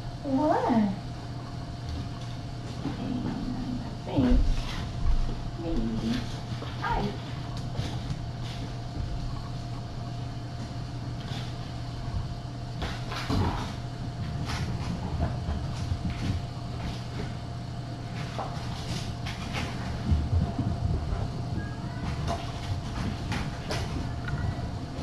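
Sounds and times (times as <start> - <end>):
low room hum: 0.0 - 25.0
kittens thumping and rattling: 1.8 - 25.0.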